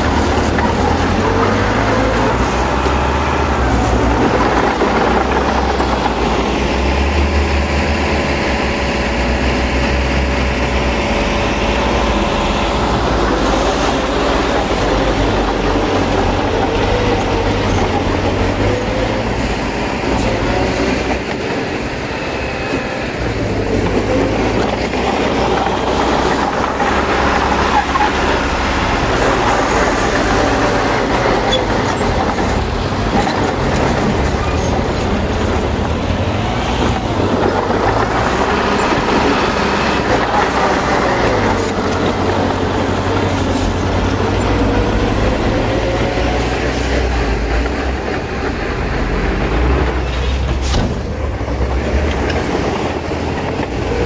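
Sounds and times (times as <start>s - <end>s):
bulldozer diesel engine running: 0.0s - 54.0s
dump truck diesel engine running: 0.0s - 54.0s.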